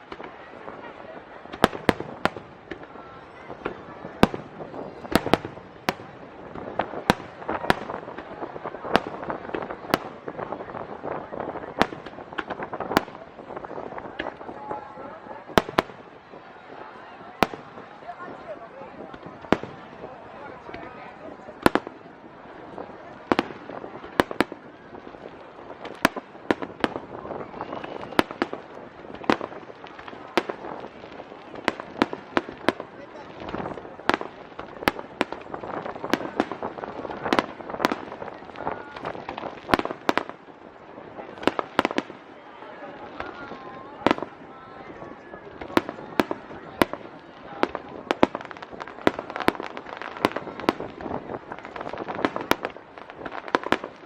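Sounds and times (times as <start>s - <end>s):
fireworks bangs: 0.0s - 54.0s
fireworks crackling: 0.0s - 54.0s.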